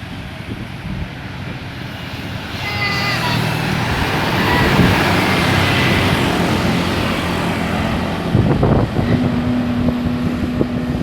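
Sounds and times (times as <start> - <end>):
bus engines passing: 0.0 - 11.0
heavy road traffic: 0.0 - 11.0.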